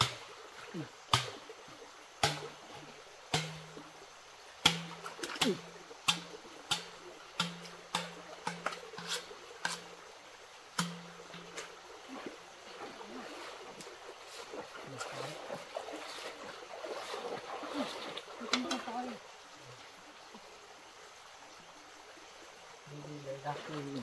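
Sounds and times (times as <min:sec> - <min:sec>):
water splashing in stream: 0:00.0 - 0:24.0.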